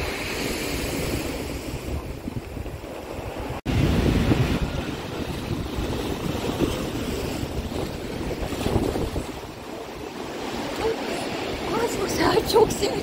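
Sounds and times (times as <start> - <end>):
sea surf breaking on rocks: 0.0 - 13.0.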